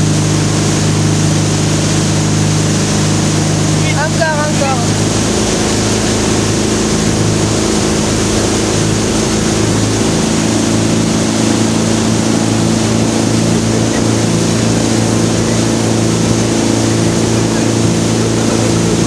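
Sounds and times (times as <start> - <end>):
boat engine drone: 0.0 - 19.0
water rushing: 0.0 - 19.0
wind: 0.0 - 19.0.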